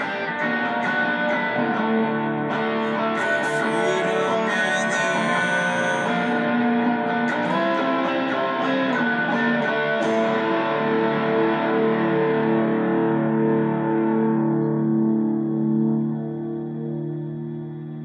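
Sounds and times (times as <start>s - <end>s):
electric guitar with effects: 0.0s - 18.0s.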